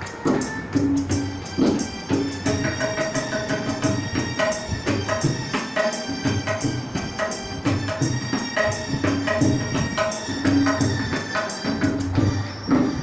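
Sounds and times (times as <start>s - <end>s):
electronic keyboard melody: 0.0s - 13.0s
jingling hand percussion: 0.0s - 13.0s
tabla drumming: 0.0s - 13.0s.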